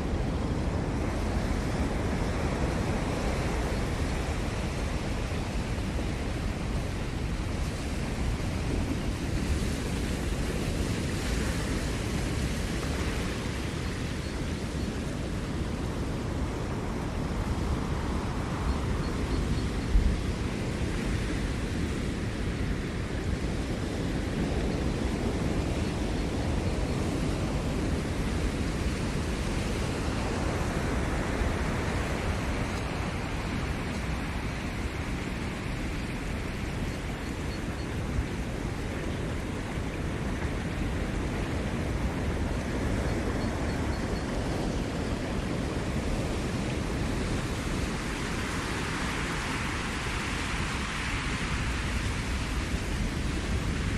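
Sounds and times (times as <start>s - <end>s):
ocean waves washing: 0.0s - 53.9s.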